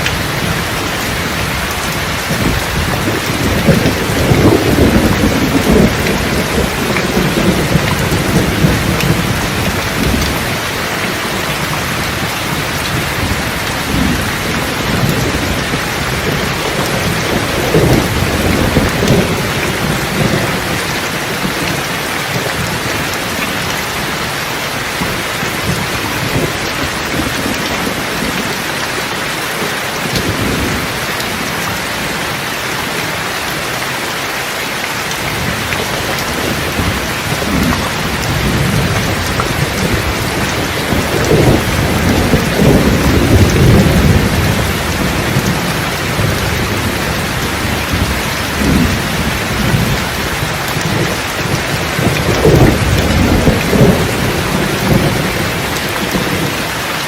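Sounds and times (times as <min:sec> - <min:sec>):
rolling thunder: 0:00.0 - 0:24.3, 0:35.2 - 0:56.7
steady rain: 0:00.0 - 0:57.0.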